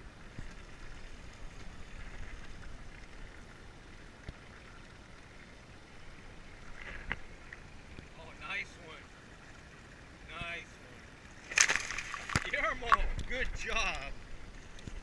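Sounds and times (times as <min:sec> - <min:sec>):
water sloshing against boat hull: 0:00.1 - 0:10.6, 0:11.2 - 0:15.0.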